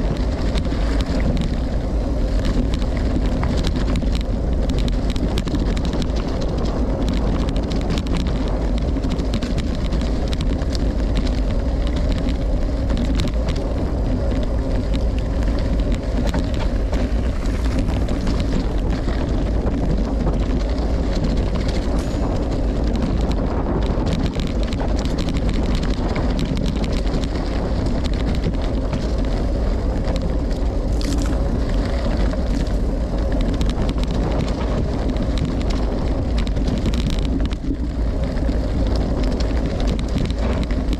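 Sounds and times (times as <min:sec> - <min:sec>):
bike tyres rolling over rough ground: 0:00.0 - 0:40.9
small clicks and rattles: 0:00.0 - 0:40.9
wind rumbling on microphone: 0:00.0 - 0:40.9.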